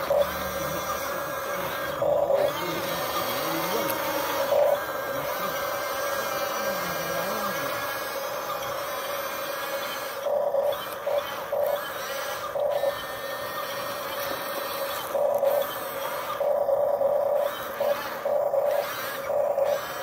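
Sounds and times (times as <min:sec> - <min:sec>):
loud whirring bursts: 0:00.0 - 0:20.0
toy excavator motors whining: 0:00.0 - 0:20.0.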